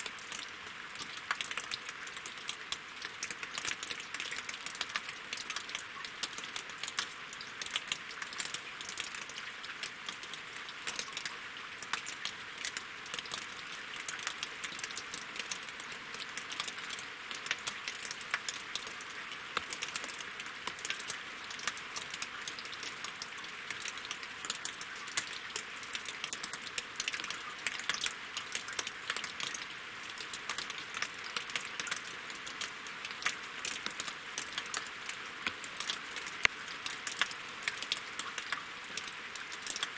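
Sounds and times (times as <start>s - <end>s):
rain falling on a lake: 0.0s - 39.9s
raindrops ticking on wood: 0.0s - 39.9s.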